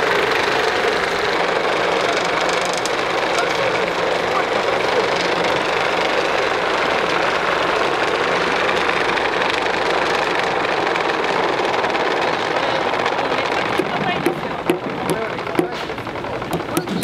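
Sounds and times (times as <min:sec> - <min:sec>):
vibrating sifter running: 0:00.0 - 0:17.0.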